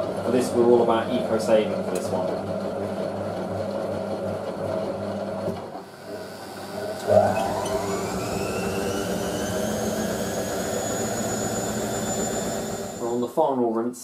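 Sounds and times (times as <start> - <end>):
washing machine motor humming: 0.0 - 13.3
washing machine spin whine: 0.0 - 13.3.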